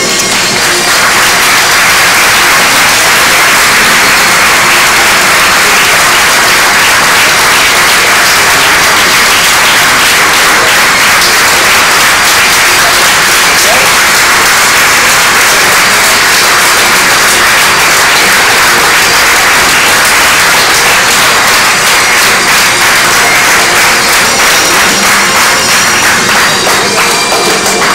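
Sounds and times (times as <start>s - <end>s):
audience applauding: 0.0s - 27.9s.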